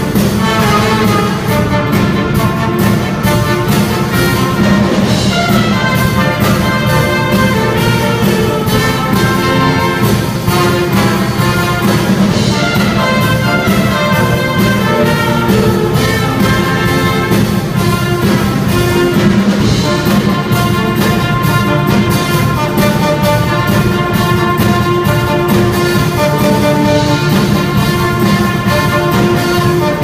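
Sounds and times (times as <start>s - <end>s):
brass band playing: 0.0s - 30.0s
drum kit beat: 0.0s - 30.0s.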